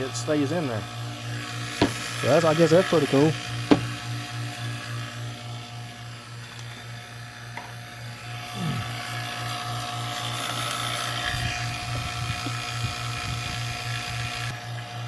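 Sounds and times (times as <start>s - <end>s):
vacuum pump humming: 0.0s - 15.0s.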